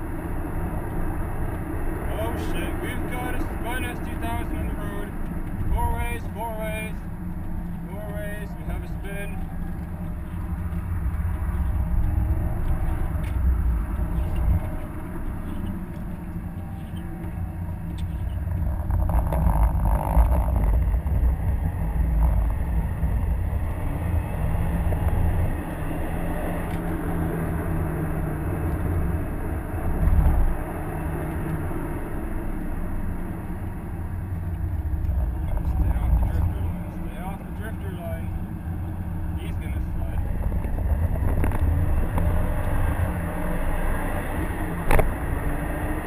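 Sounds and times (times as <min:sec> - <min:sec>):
car engine drone: 0:00.0 - 0:46.0
road and tyre rumble: 0:00.0 - 0:46.0.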